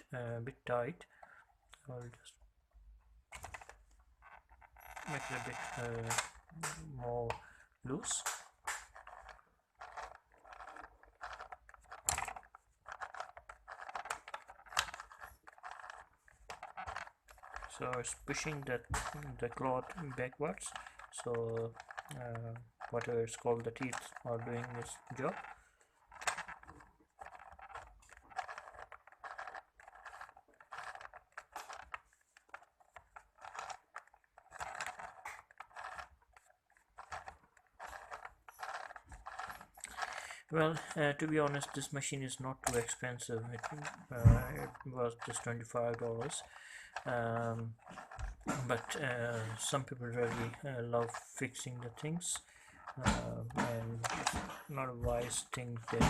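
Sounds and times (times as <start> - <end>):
sewing machine clicking and rattling: 3.3 - 56.0.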